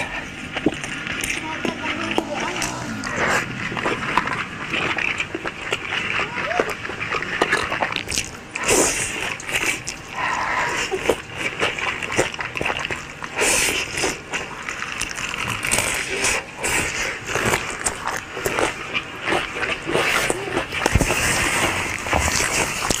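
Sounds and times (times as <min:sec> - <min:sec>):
chewing and biting mango: 0:00.0 - 0:23.0.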